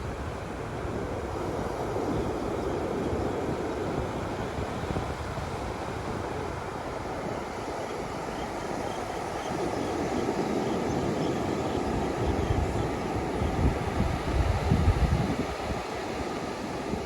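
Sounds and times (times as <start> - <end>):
surf washing on beach: 0.0 - 17.0.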